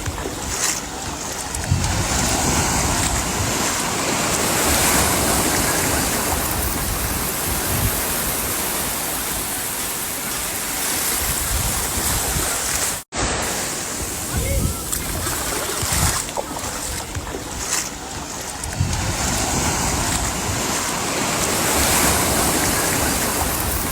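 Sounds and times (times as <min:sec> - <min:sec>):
surf washing up a beach: 0:00.0 - 0:23.9.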